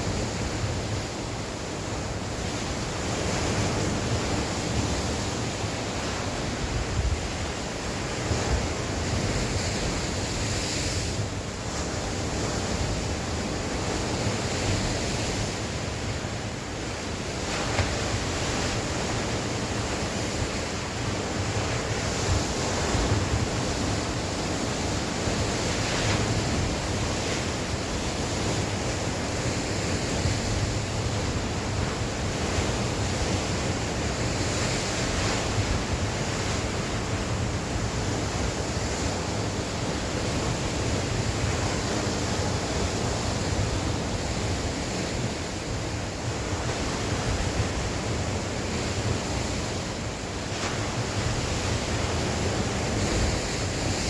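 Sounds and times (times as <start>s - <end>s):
waves washing onto shore: 0.0s - 54.0s
wind rumbling on microphone: 0.0s - 54.0s.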